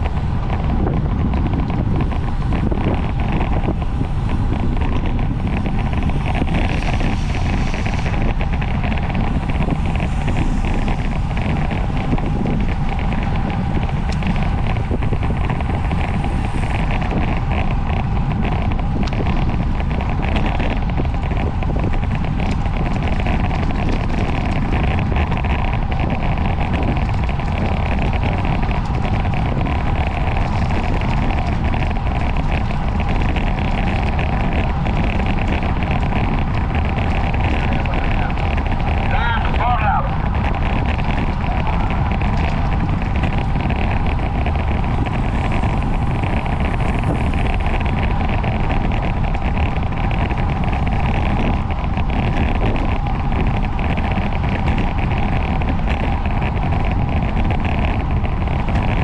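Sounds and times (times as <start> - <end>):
road and drivetrain noise: 0.0 - 59.0
wind rushing over microphone: 0.0 - 59.0.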